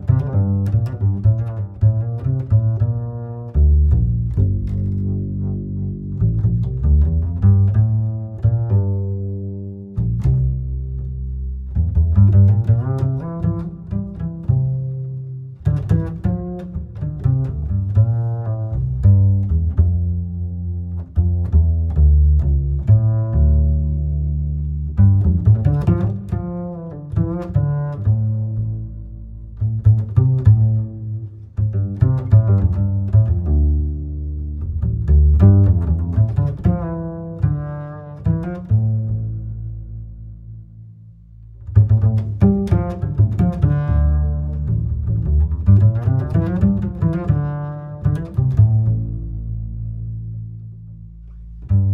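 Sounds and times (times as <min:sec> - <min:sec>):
plucked melody: 0:00.0 - 0:40.6, 0:41.5 - 0:51.9
deep sustained bass notes: 0:00.0 - 0:51.9.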